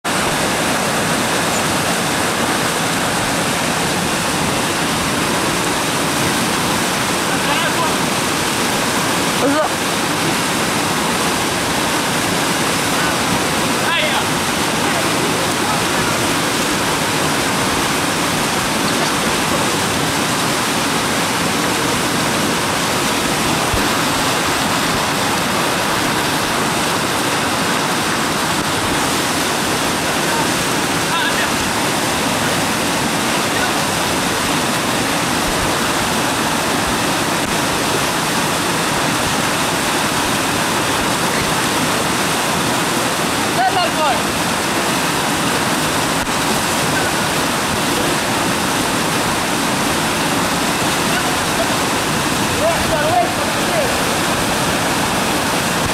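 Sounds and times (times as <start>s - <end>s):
river rapid rushing: 0.1s - 55.9s.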